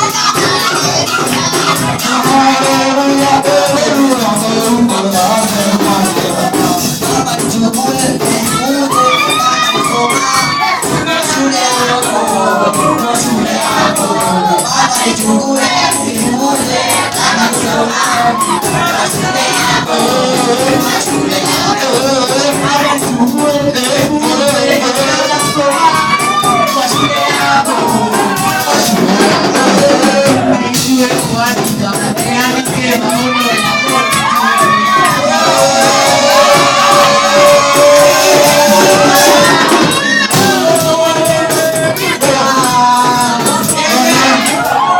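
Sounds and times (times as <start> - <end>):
group of people singing: 0.0 - 44.9
shaken percussion beat: 0.0 - 44.9.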